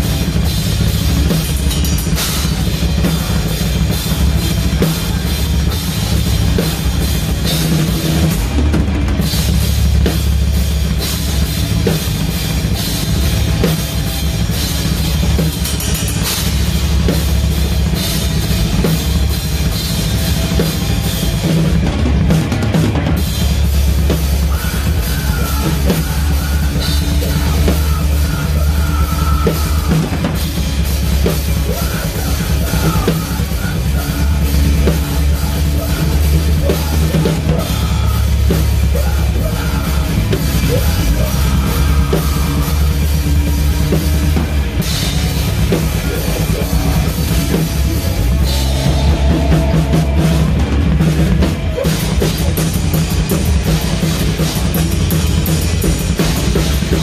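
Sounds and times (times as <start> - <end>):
death metal band playing live: 0.0 - 57.0
rapid bass drum and cymbals: 0.0 - 57.0.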